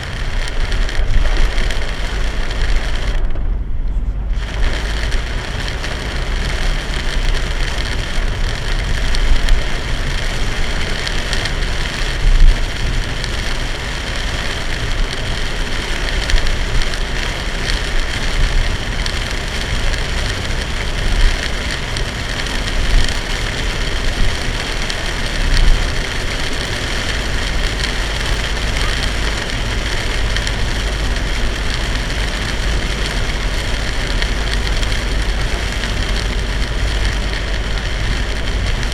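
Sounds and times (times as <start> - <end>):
heavy rain beating on car: 0.0 - 38.9
tyre and road noise: 0.0 - 38.9.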